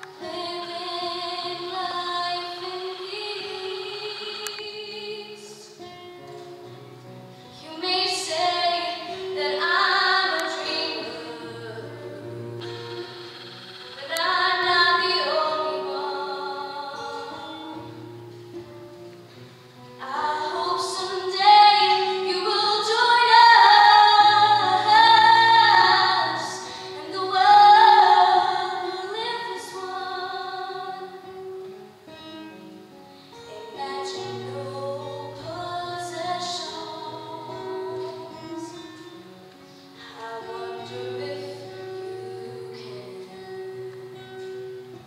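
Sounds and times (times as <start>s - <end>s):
girl singing into microphone: 0.0s - 6.7s, 7.4s - 18.8s, 19.9s - 32.6s, 33.3s - 45.0s.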